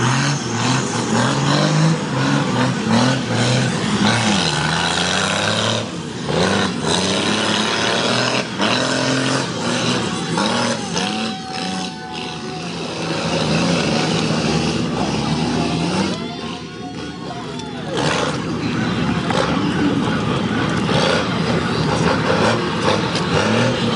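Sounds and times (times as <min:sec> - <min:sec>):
diesel engine revving hard: 0:00.0 - 0:23.9.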